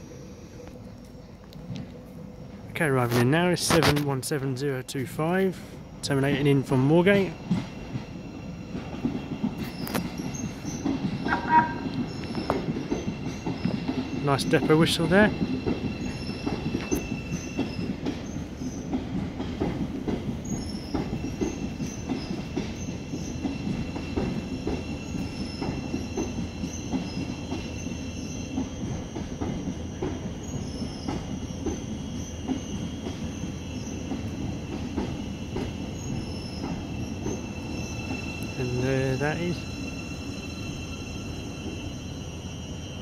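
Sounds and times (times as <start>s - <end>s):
low train rumble: 0.0s - 43.0s
train wheels squealing on rails: 4.6s - 43.0s.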